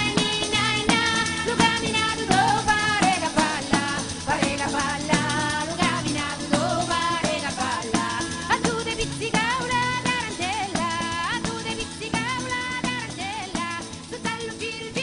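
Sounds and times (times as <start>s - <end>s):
steady percussive beat: 0.0s - 15.0s.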